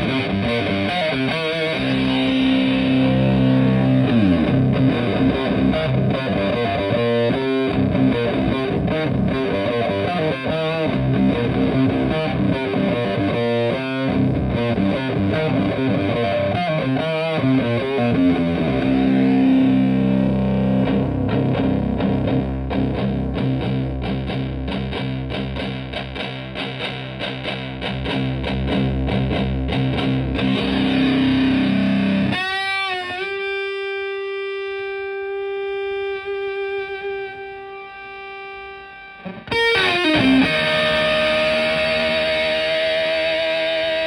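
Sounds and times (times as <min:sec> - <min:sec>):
distorted fuzz electric guitar: 0:00.0 - 0:44.0.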